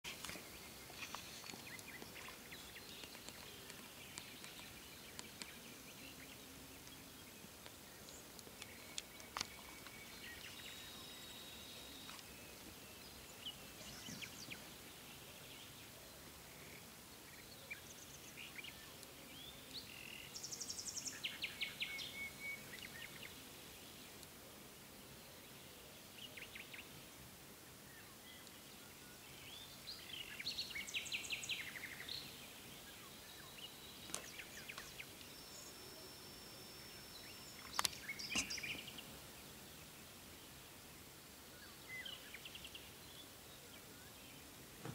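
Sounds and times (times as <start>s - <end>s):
outdoor background hiss: 0.0s - 44.9s.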